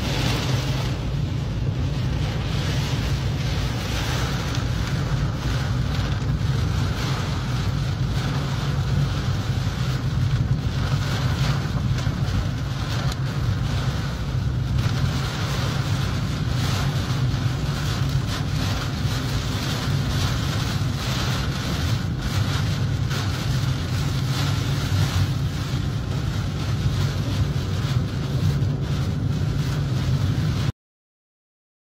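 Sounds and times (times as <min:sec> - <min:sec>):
rain hissing on car: 0:00.0 - 0:30.7
wind rumbling: 0:00.0 - 0:30.7.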